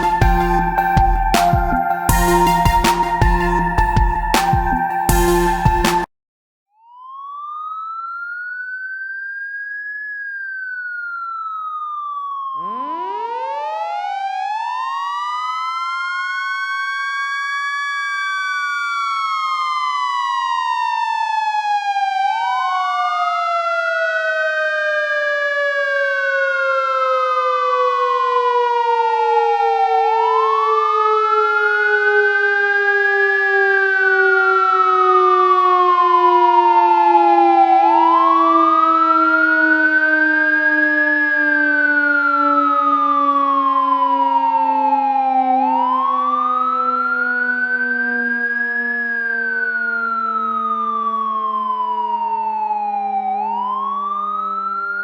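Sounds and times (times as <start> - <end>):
deeper siren tone: 0.0 - 6.1, 6.8 - 55.0
fire truck siren wailing: 0.0 - 6.1, 7.0 - 55.0.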